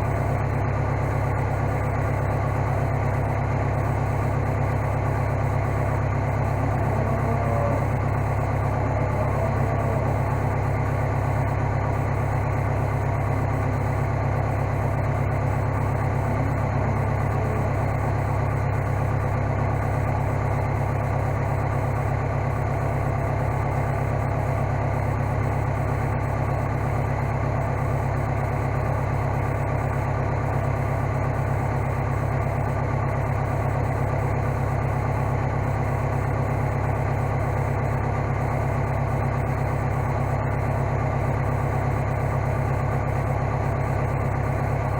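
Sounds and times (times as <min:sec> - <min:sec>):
skid steer engine running: 0:00.0 - 0:44.9.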